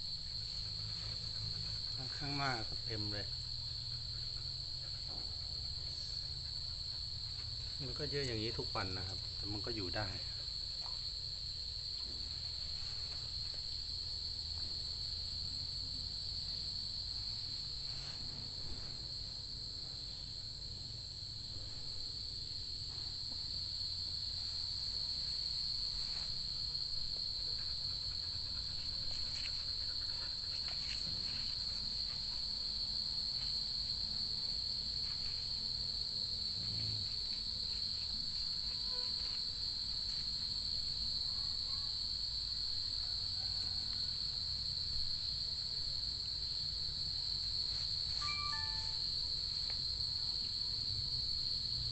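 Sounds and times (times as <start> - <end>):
night insects trilling: 0.0 - 51.9.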